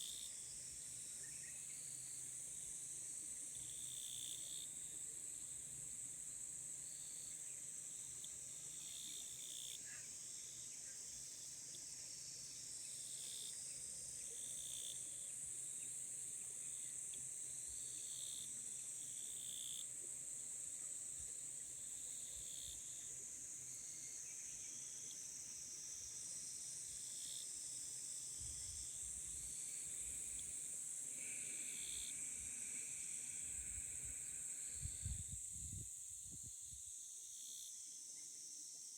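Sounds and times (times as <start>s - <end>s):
high-pitched insect trill: 0.0s - 38.9s
lower steady insect trill: 0.0s - 38.9s
slower lower insect chirps: 0.0s - 38.9s.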